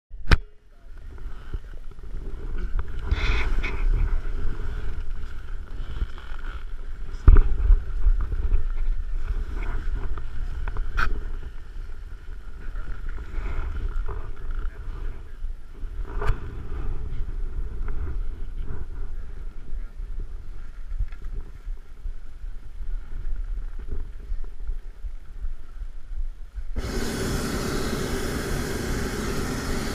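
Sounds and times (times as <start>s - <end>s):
wind buffeting microphone: 1.0s - 29.9s.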